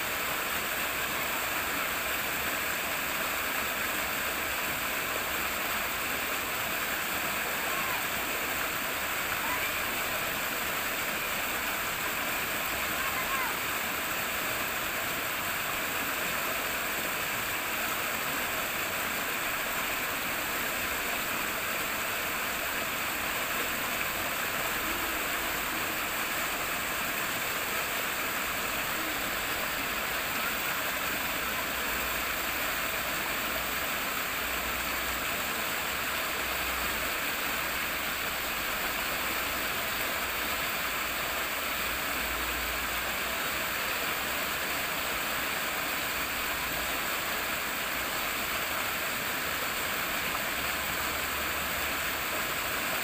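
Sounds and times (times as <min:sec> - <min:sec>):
running water babbling: 0:00.0 - 0:53.0.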